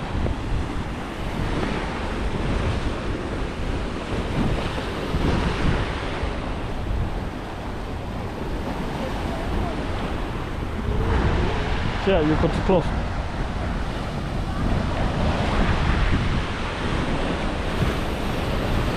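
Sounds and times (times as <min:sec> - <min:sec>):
ocean surf washing: 0:00.0 - 0:18.9
wind buffeting microphone: 0:00.0 - 0:18.9.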